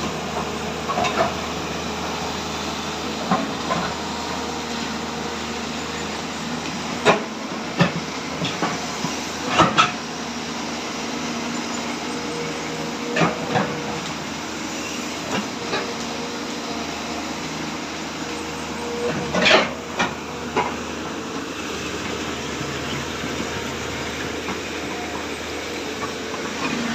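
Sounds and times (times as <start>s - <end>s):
excavator running: 0.0s - 26.9s.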